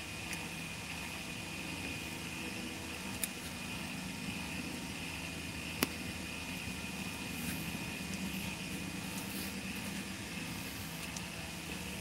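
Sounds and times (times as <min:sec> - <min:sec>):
mechanical hum with high whine: 0:00.0 - 0:12.0.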